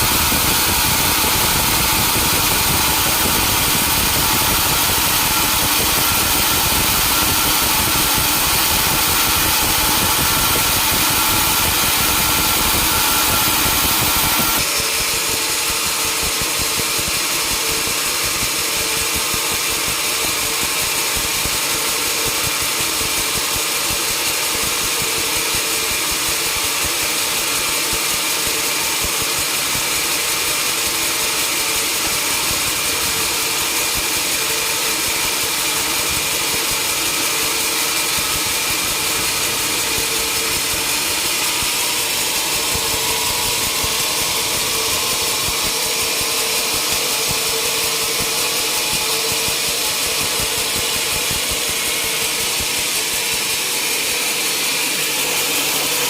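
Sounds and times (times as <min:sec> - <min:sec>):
sawmill engine drone: 0:00.0 - 0:56.0.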